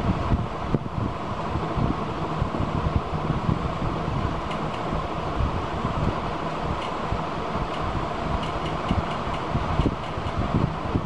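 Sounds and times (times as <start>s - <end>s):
low rumbling machine noise: 0.0s - 11.0s.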